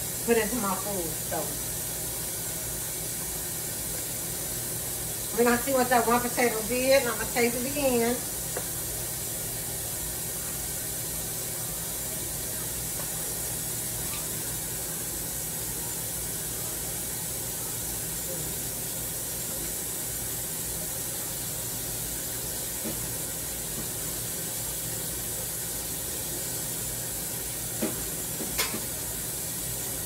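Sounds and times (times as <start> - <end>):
tap water running: 0.0 - 30.0.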